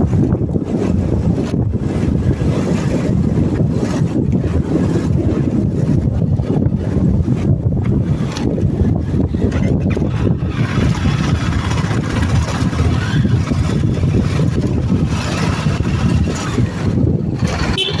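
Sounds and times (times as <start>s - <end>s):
vehicle rumbling in traffic: 0.0s - 18.0s
wind buffeting microphone: 0.0s - 18.0s.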